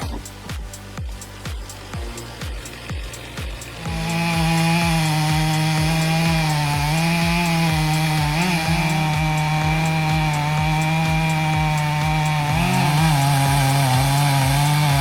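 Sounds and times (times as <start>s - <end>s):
background music with beat: 0.0s - 15.0s
chainsaw cutting wood: 0.0s - 15.0s.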